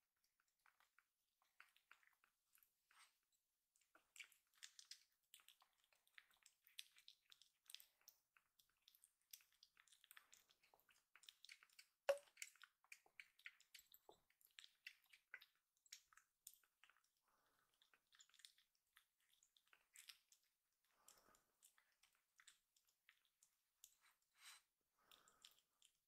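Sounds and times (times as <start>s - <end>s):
kitten suckling from bottle: 0.2s - 26.0s.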